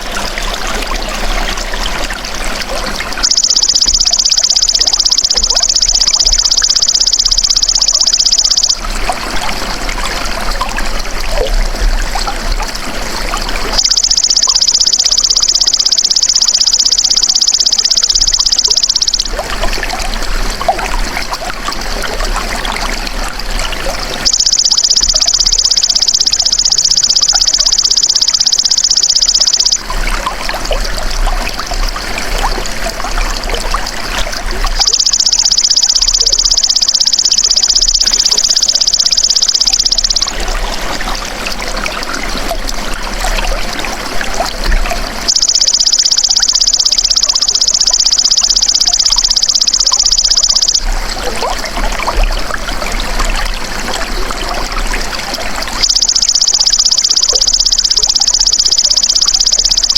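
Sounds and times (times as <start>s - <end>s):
trickling running water: 0.0s - 59.9s.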